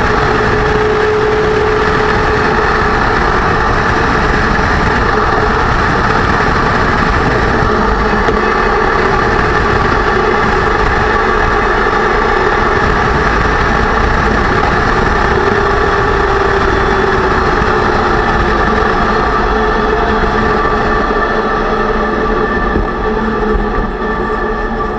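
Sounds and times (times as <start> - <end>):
differential whine: 0.0 - 24.9
drivetrain rumble: 0.0 - 24.9.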